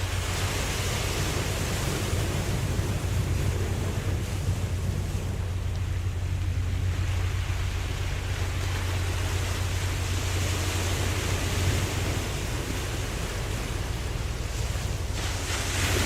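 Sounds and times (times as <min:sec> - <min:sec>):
ocean waves washing: 0:00.0 - 0:16.0.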